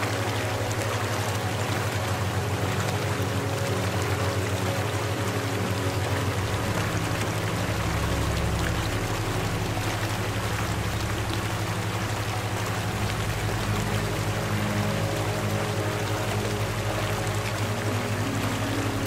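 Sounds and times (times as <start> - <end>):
low music drone: 0.0 - 19.0
running water: 0.0 - 19.0.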